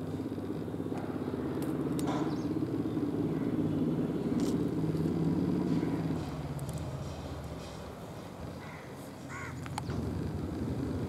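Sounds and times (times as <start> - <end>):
engine running with low pulse: 0.0 - 11.0.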